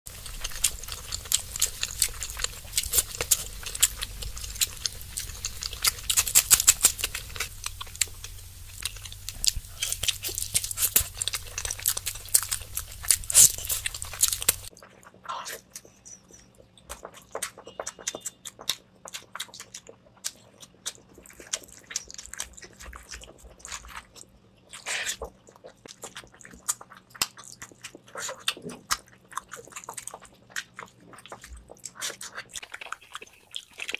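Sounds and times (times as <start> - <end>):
wet chewing and lip smacking: 0.1 - 33.9.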